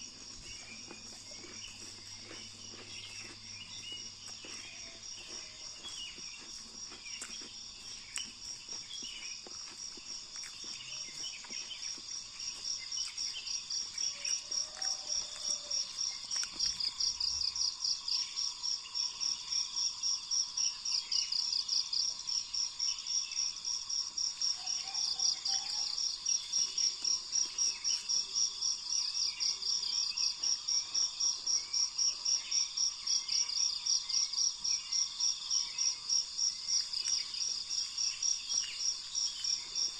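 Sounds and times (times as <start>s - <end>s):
faint insect drone: 0.0s - 39.9s
insect chirping: 0.0s - 39.9s.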